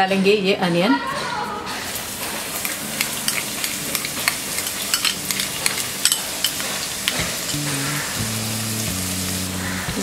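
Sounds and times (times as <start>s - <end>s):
onion sizzling in hot oil: 1.8s - 10.0s.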